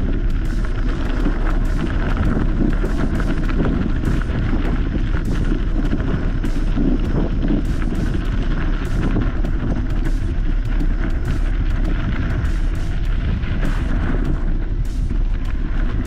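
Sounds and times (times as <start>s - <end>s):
off-road vehicle engine: 0.0s - 16.0s.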